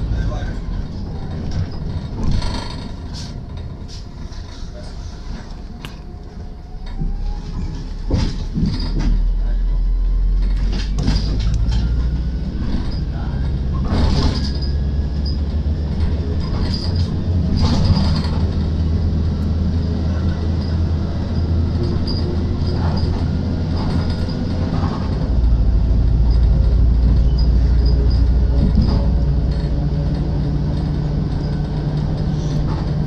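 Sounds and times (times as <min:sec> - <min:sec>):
bus diesel engine drone: 0:00.0 - 0:33.0
road noise: 0:00.0 - 0:33.0
bus body knocks and rattles: 0:00.4 - 0:04.6, 0:07.6 - 0:09.4, 0:10.3 - 0:33.0.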